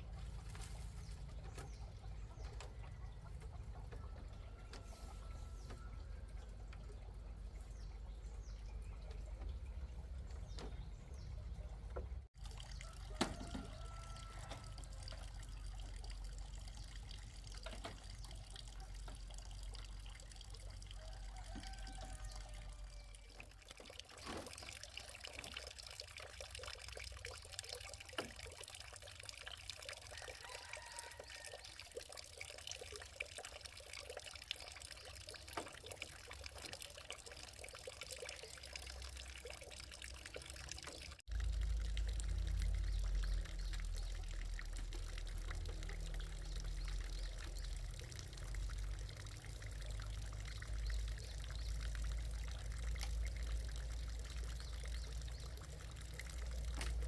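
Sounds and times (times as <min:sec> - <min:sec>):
water trickling and pouring: 0:00.0 - 0:57.0.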